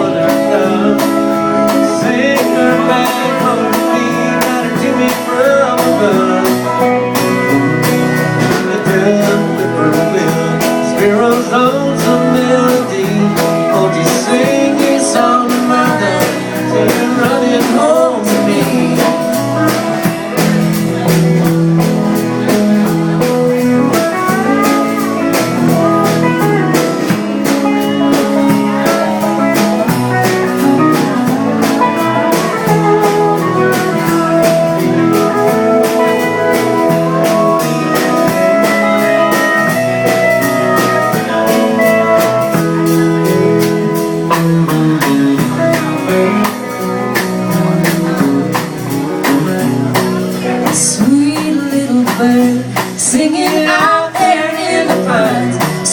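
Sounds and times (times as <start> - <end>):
live country band playing: 0.0 - 55.9.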